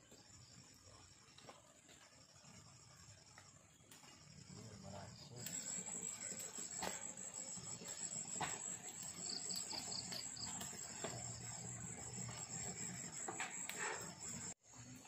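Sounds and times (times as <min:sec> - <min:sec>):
insect chirping in pulses: 0:00.0 - 0:15.0
insects trilling: 0:00.0 - 0:15.0.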